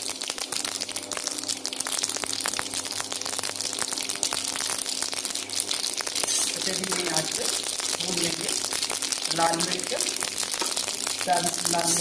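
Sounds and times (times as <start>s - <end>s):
oil frying hiss: 0.0s - 12.0s
seeds spluttering in hot oil: 0.0s - 12.0s.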